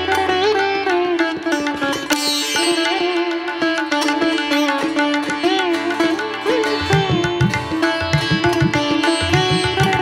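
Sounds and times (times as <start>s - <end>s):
string melody with bending notes: 0.0s - 10.0s.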